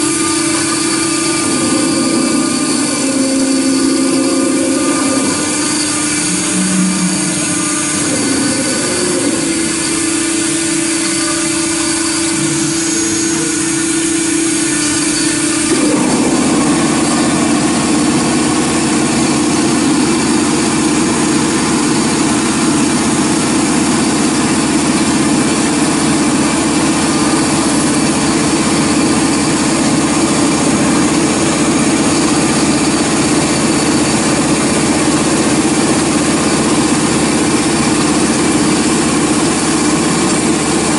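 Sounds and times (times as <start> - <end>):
router spindle milling metal: 0.0 - 40.9.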